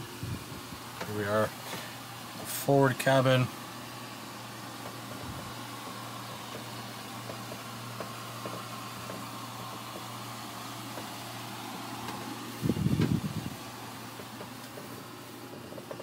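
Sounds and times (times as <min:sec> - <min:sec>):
low machinery hum: 0:00.0 - 0:16.0.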